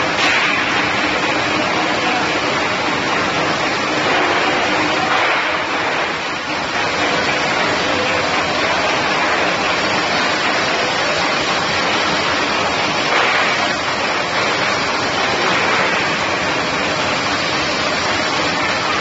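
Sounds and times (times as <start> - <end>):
oil sizzling in fryer: 0.0 - 19.0.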